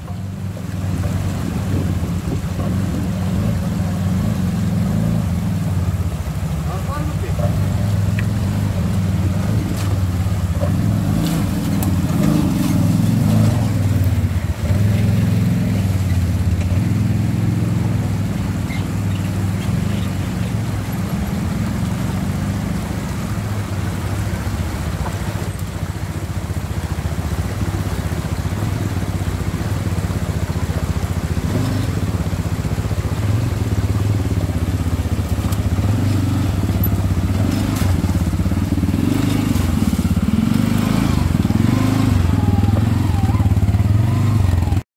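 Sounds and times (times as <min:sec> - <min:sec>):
atv engine running: 0:00.0 - 0:44.8.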